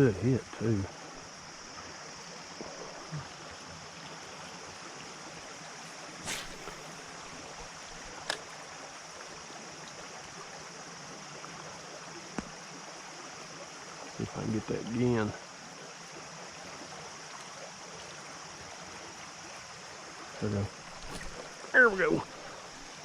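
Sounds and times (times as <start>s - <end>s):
creek water running: 0.0s - 23.0s.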